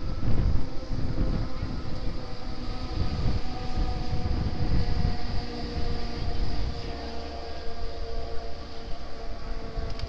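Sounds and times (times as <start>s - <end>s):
distant jet engine rumble: 0.0s - 10.0s
faint jet whine: 0.0s - 10.0s.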